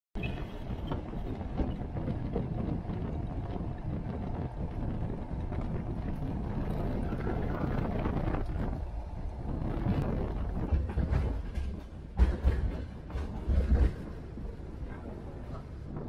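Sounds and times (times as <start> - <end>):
moving train rumbling: 0.2 - 16.0
wind buffeting microphone: 0.2 - 16.0.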